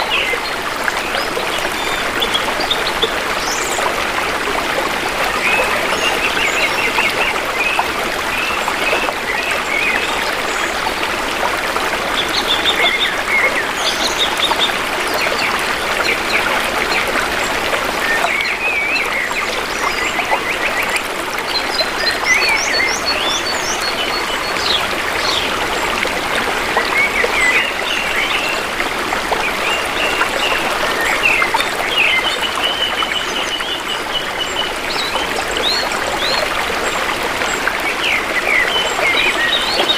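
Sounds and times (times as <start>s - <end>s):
shallow river water flowing: 0.0s - 39.9s.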